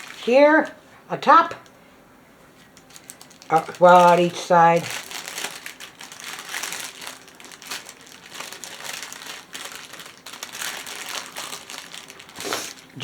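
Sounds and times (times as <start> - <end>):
plastic packaging crinkling: 0.0 - 0.8, 2.6 - 13.0.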